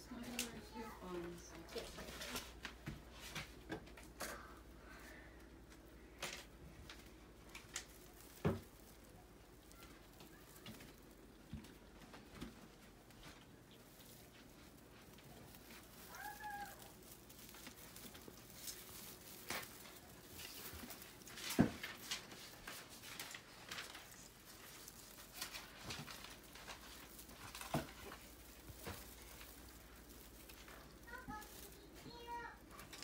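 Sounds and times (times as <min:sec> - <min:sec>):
tree branches and ornaments rustling: 0:00.0 - 0:33.0.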